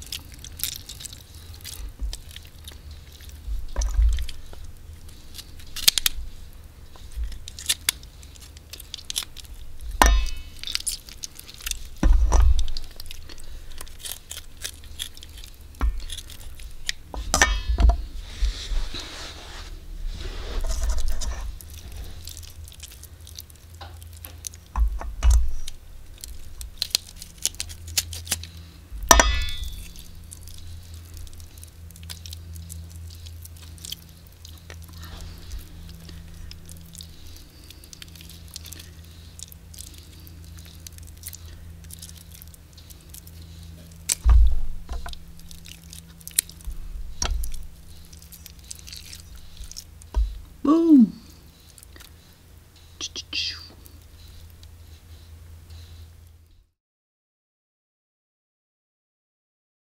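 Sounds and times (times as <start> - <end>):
wet meat squelching: 0.0 - 18.2, 21.0 - 24.8, 25.6 - 52.6.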